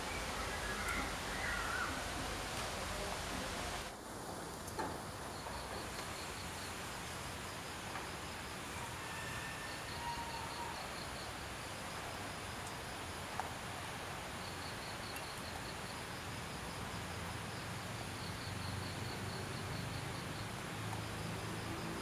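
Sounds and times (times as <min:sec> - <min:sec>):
insect chirping: 0:00.0 - 0:22.0
steady background hiss: 0:00.0 - 0:22.0.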